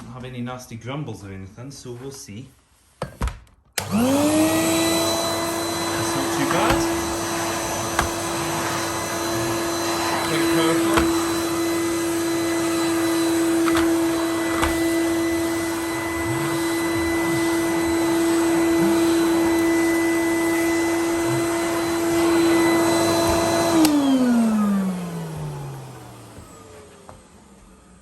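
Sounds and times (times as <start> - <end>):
vacuum motor winding down: 3.8 - 27.9
vacuum cleaner motor whine: 3.8 - 28.0.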